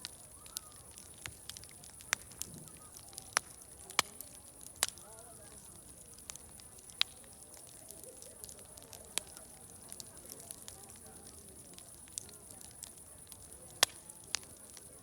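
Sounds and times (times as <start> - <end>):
distant crowd chatter: 0.0 - 15.0
wood fire crackling and popping: 0.0 - 15.0.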